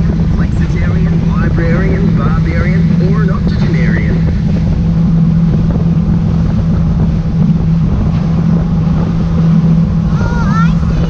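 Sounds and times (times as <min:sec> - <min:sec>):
hull rushing through water: 0:00.0 - 0:11.0
outboard motor humming: 0:00.0 - 0:11.0
wind buffeting microphone: 0:00.0 - 0:11.0.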